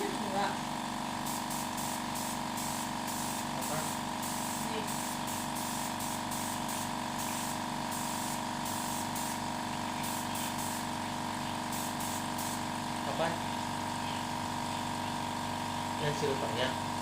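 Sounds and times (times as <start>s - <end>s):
machine hum: 0.0s - 16.2s
paint spraying hiss: 0.0s - 16.4s.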